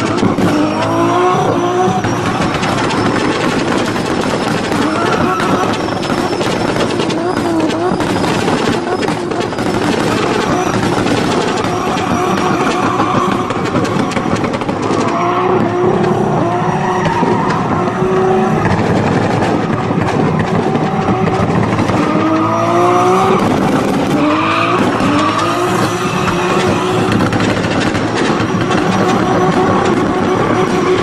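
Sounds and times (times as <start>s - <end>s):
car engine revving hard: 0.0s - 31.0s
tyres squealing: 0.0s - 31.0s.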